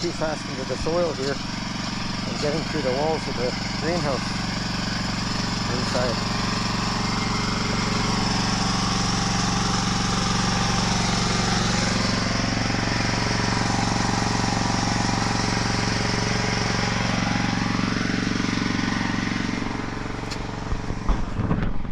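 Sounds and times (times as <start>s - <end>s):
small engine running: 0.0s - 21.9s.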